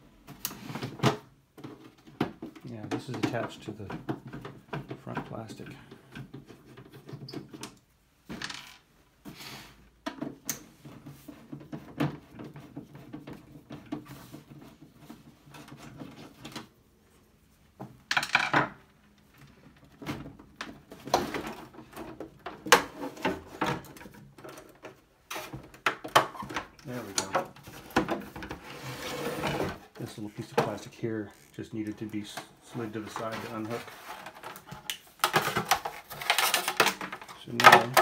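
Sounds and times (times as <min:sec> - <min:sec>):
plastic scraping and knocking: 0:00.2 - 0:09.4, 0:10.0 - 0:16.8, 0:17.7 - 0:38.0.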